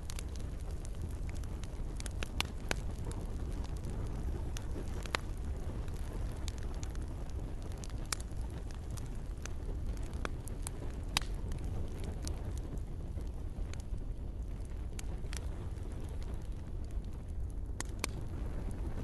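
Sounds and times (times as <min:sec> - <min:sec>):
campfire crackling and popping: 0:00.0 - 0:19.0
low rumble of burning wood: 0:00.0 - 0:19.0.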